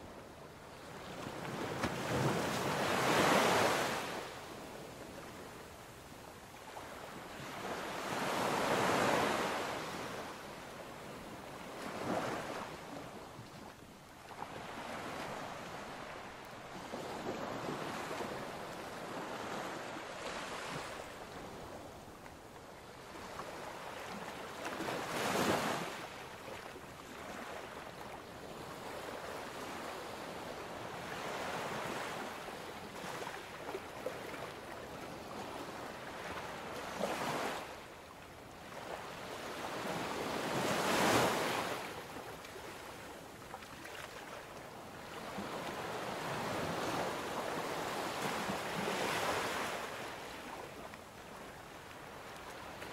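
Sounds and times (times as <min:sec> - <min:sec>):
ocean waves washing on shore: 0:00.0 - 0:52.9.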